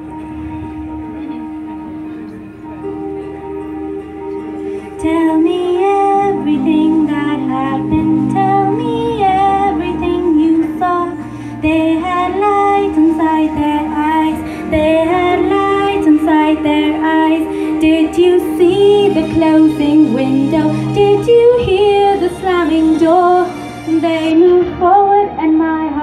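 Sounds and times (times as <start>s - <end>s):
orchestral backing track: 0.0s - 26.0s
woman singing into microphone: 4.8s - 26.0s.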